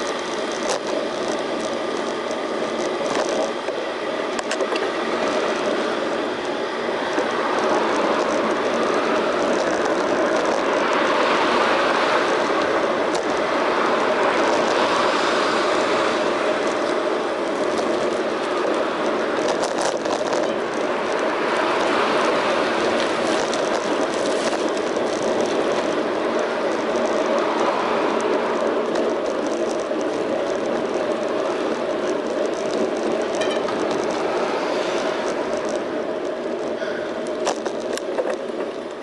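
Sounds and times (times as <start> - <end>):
bicycle wind and tyre noise: 0.0 - 39.0.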